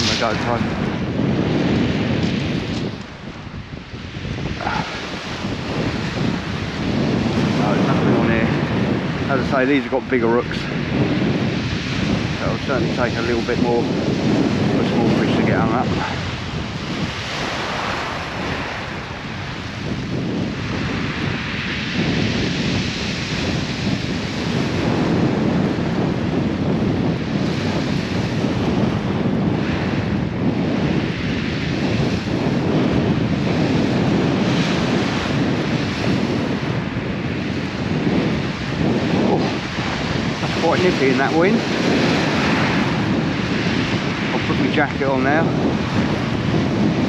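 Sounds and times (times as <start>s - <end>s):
waves breaking on shingle beach: 0.0s - 47.0s
wind buffeting microphone: 0.0s - 47.0s.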